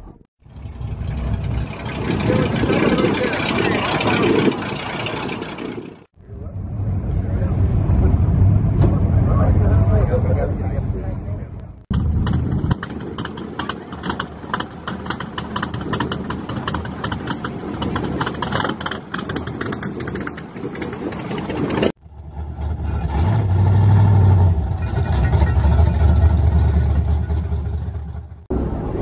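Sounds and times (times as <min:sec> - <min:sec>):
car engine idling and revving: 0:00.0 - 0:11.2, 0:11.8 - 0:29.0
car engines crackling: 0:00.0 - 0:29.0.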